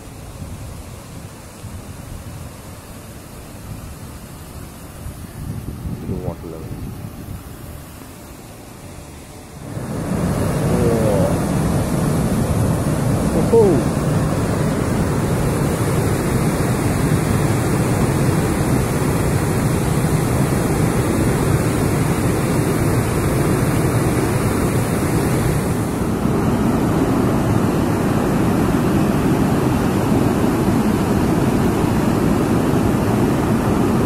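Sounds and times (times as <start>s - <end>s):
water cascading down spillway: 0.0s - 34.0s.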